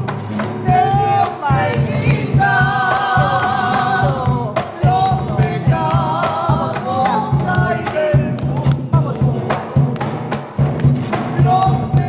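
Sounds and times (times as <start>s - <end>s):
woman singing: 0.0s - 9.6s, 11.2s - 12.0s
acoustic guitar: 0.0s - 12.0s
cajon drum: 0.0s - 12.0s.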